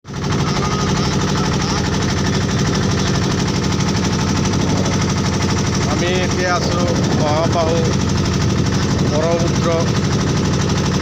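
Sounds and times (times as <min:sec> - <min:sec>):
boat engine running: 0:00.1 - 0:11.0.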